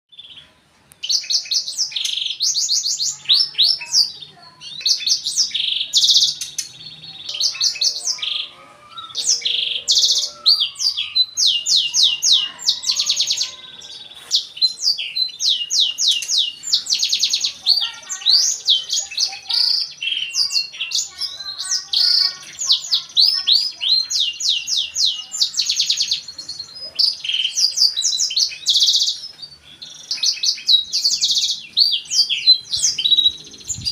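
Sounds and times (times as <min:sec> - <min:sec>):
canary singing: 0:00.1 - 0:33.9.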